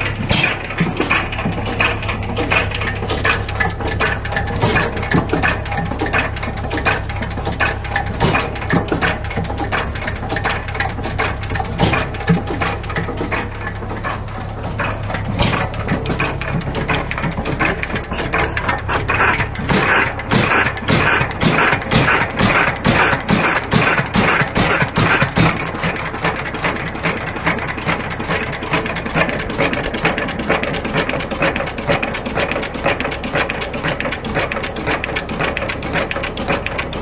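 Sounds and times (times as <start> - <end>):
mechanical clicking and knocking: 0.0 - 37.0
stationary engine running: 0.0 - 37.0.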